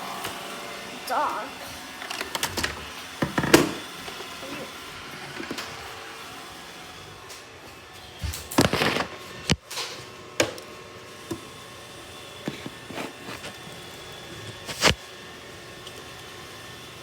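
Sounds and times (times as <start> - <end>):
robot vacuum humming: 0.0 - 17.0.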